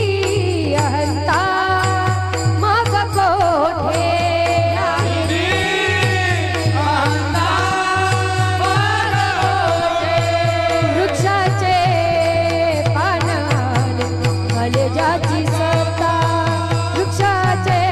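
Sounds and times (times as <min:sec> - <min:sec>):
steady drum beat: 0:00.0 - 0:17.9
devotional music with long held notes: 0:02.2 - 0:17.9.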